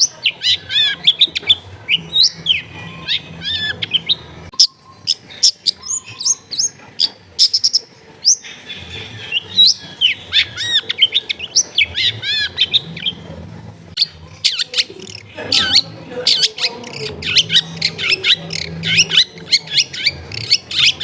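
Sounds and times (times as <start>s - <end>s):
bird singing: 0.0s - 21.0s.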